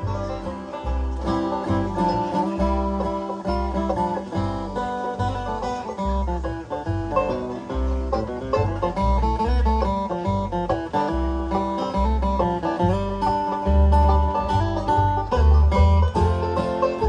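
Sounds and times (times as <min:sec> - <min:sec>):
banjo picking: 0:00.0 - 0:17.0
guitar picking: 0:00.0 - 0:17.0
steady bass line: 0:00.0 - 0:17.0.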